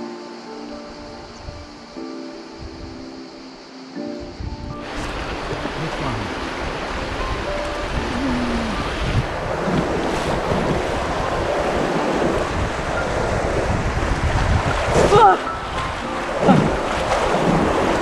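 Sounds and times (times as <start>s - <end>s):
river water rushing: 0.0s - 18.0s
wind buffeting microphone: 0.9s - 3.1s, 4.2s - 18.0s.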